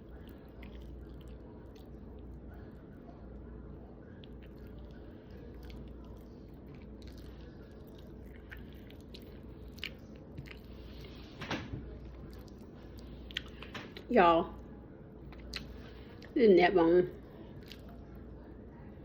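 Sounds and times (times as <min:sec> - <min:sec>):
person chewing and smacking: 0:00.0 - 0:03.0, 0:04.2 - 0:16.3, 0:17.2 - 0:18.5
steady low hum: 0:00.0 - 0:19.0.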